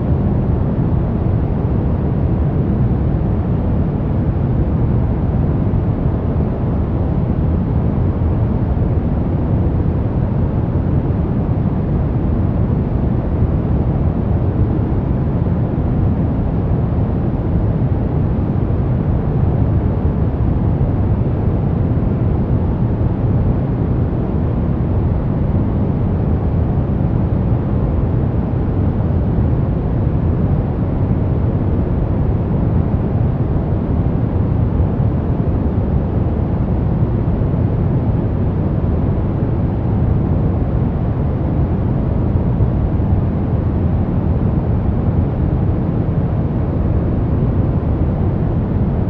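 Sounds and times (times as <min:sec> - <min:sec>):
brown noise: 0:00.0 - 0:49.0.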